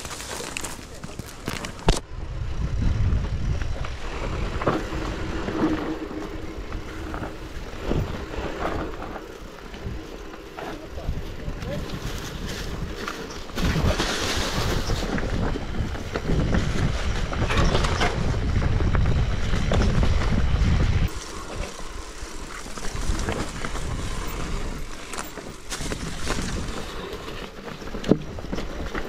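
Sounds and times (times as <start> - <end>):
bike rattling: 0.0 - 29.0
wind rumble on microphone: 0.0 - 29.0.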